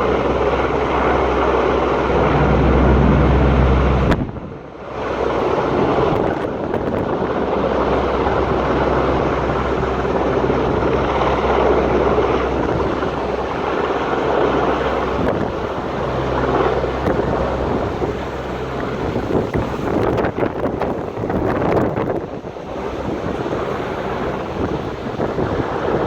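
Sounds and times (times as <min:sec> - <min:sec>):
helicopter rotor drone: 0:00.0 - 0:26.0
wind buffeting microphone: 0:00.0 - 0:26.0.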